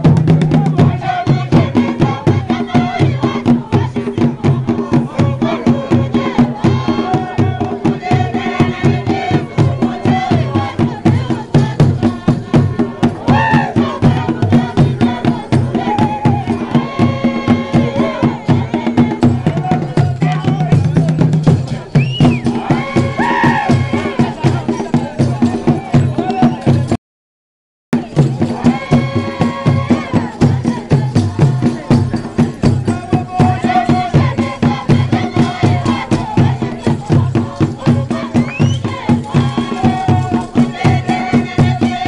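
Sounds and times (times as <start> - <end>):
group of voices chanting and singing: 0.0 - 27.0, 28.0 - 42.0
wooden drums beating fast rhythm: 0.0 - 27.0, 27.9 - 42.0.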